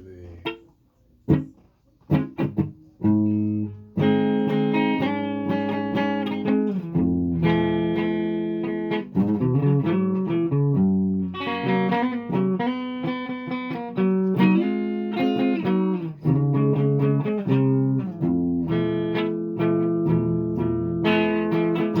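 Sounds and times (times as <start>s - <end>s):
guitar chords: 0.0s - 22.0s.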